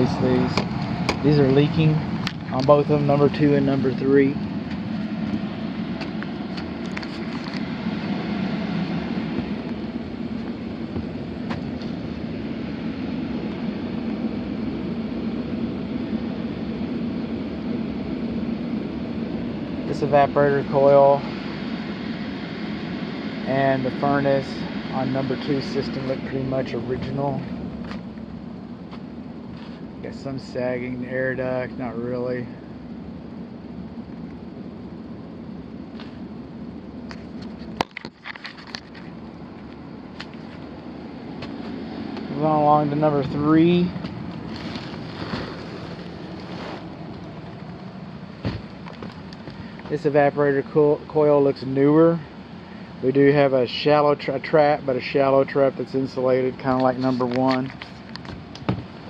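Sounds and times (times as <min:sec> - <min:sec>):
air handler blower humming: 0:00.0 - 0:59.0.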